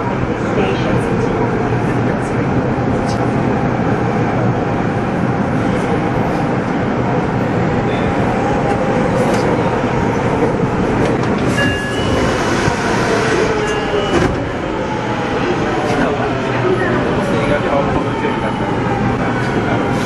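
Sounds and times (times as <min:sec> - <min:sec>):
subway train slowing to a stop: 0:00.0 - 0:20.0.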